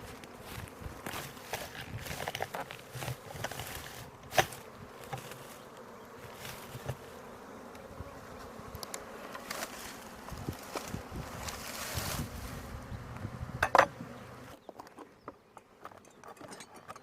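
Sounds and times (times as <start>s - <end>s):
honeybees buzzing: 0.0s - 14.7s.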